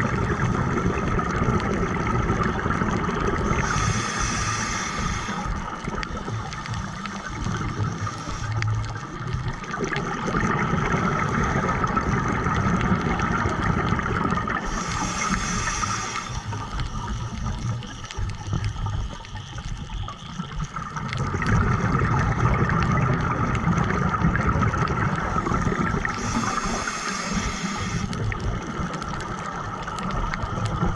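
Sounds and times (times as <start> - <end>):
steady hum: 0.0 - 21.9, 24.2 - 30.9
bubbles from diver's regulator: 0.0 - 30.9
underwater gurgling and rumbling: 0.0 - 30.9.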